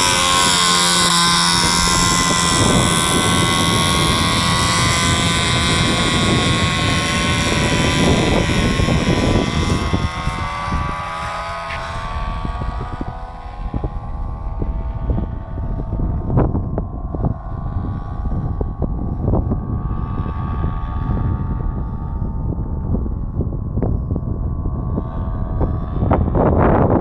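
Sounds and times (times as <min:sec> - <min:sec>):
small propeller engine whine: 0:00.0 - 0:27.0.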